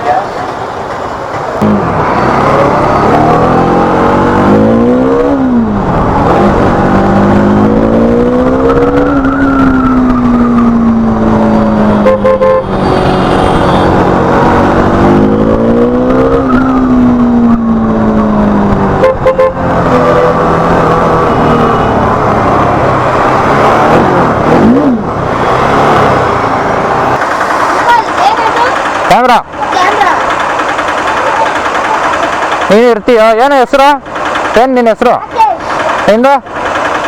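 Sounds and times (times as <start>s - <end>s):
motorcycle engine revving: 1.6s - 37.0s.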